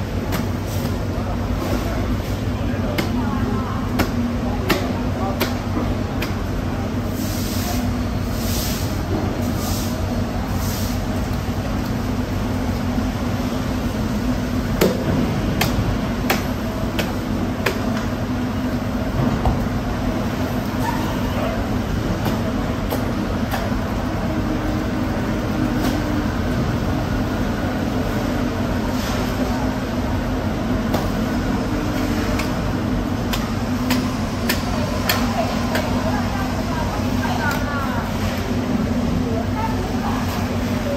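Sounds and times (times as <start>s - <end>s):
low machinery hum: 0.0s - 40.9s.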